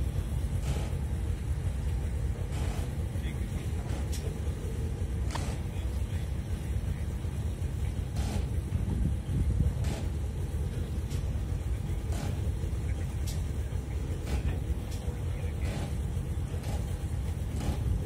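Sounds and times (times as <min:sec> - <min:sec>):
yacht engines rumbling: 0:00.0 - 0:18.0.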